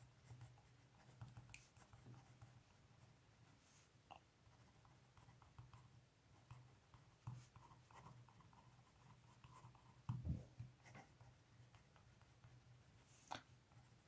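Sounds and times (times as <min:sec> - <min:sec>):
pen scratching on paper: 0:00.1 - 0:03.8, 0:04.4 - 0:14.0.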